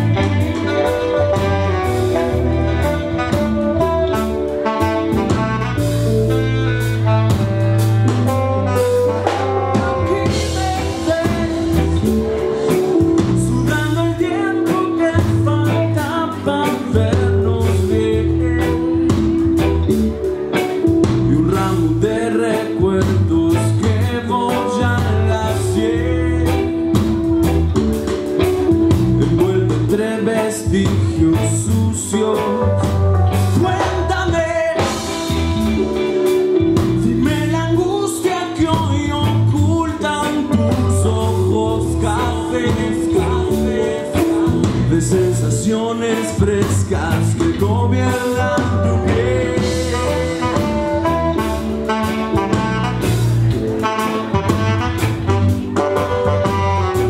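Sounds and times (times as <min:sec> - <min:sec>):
man singing: 0:00.0 - 0:07.4, 0:08.1 - 0:27.7, 0:28.9 - 0:57.0
saxophone: 0:00.0 - 0:46.5, 0:48.0 - 0:57.0
drum kit: 0:00.0 - 0:57.0
electric bass: 0:00.0 - 0:57.0.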